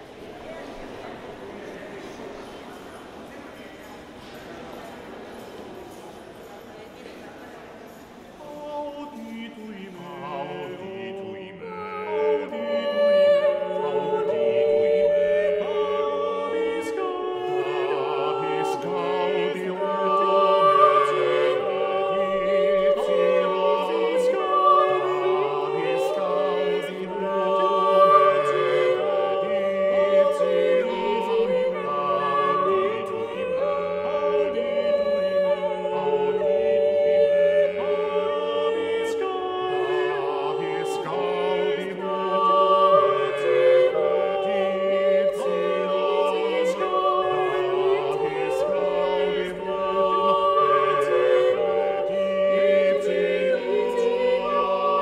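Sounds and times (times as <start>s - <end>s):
group singing a cappella: 8.4s - 55.0s.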